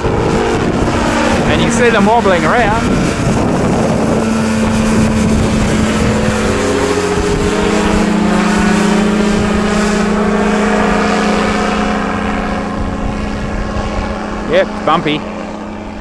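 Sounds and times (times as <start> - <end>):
light aircraft engine and propeller droning: 0.0 - 16.0.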